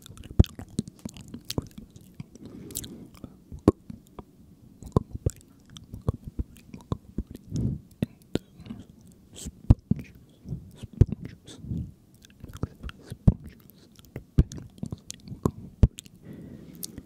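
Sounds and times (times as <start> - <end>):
wet mouth clicks and lip smacks: 0.0 - 4.2, 4.8 - 16.2
soft breathy murmurs: 0.0 - 17.0.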